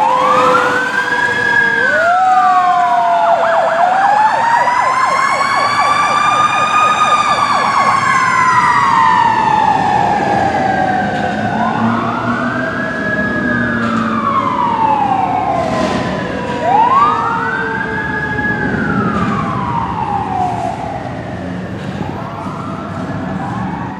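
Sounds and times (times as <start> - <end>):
fire truck siren wailing: 0.0 - 23.9.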